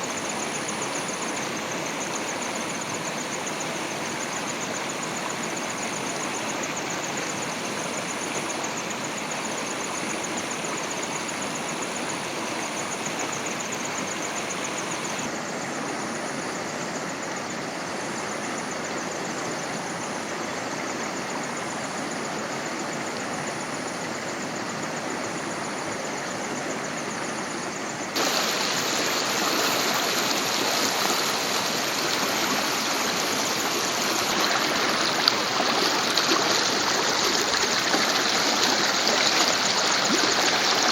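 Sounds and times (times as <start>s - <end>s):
stream water rushing: 0.0s - 15.6s, 16.8s - 40.9s.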